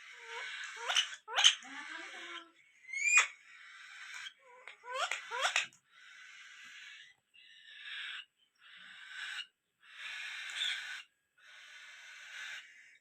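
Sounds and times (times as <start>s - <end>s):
parrot chirping: 0.0s - 13.0s.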